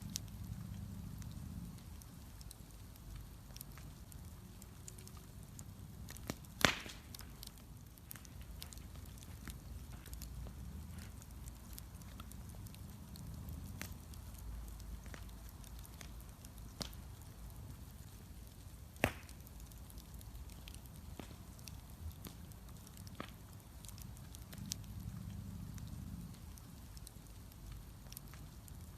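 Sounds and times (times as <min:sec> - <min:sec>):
bonfire crackling and popping: 0:00.0 - 0:28.9
low steady fire rumble: 0:00.0 - 0:28.9.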